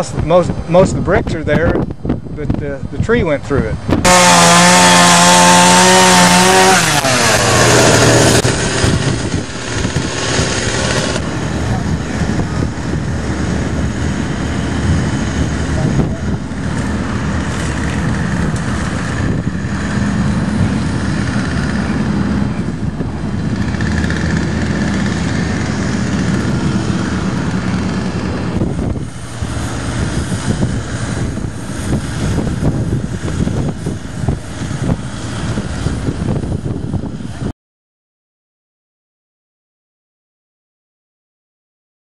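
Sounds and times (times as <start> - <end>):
motor engine humming: 3.6 - 37.5
rushing noise: 3.6 - 37.5.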